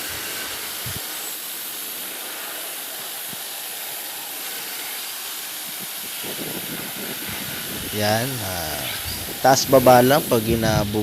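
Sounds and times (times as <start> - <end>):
power sprayer water hissing: 0.0 - 11.0.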